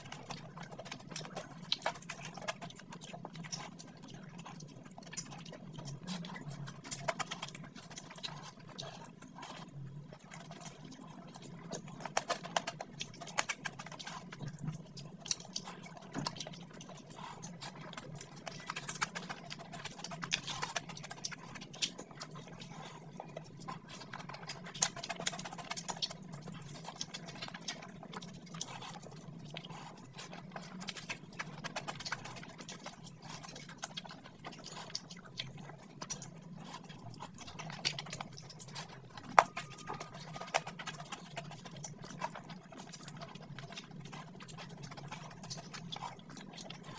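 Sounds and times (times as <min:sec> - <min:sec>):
chewing and lip smacks: 0:00.0 - 0:46.9.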